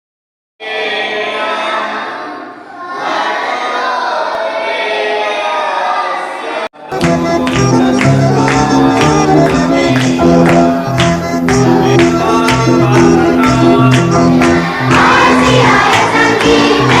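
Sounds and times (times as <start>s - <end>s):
choir singing: 0.6s - 11.0s, 11.8s - 17.0s.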